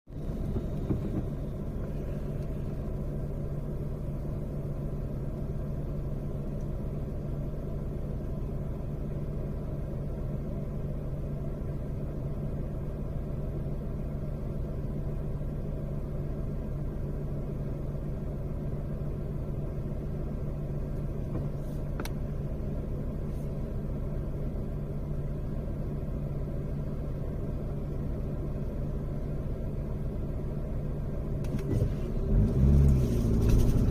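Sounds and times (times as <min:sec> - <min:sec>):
car driving rumble: 0:00.1 - 0:33.9.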